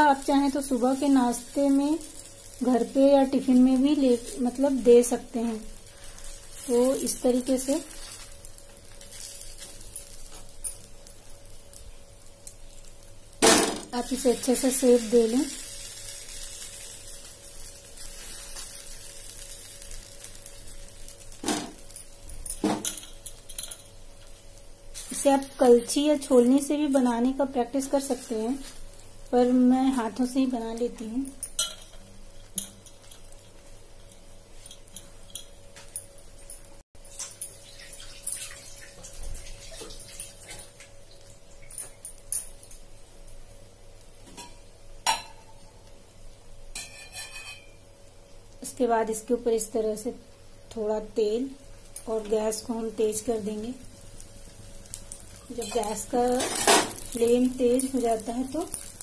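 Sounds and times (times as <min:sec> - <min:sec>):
batter sizzling on a griddle: 0:00.0 - 0:59.0.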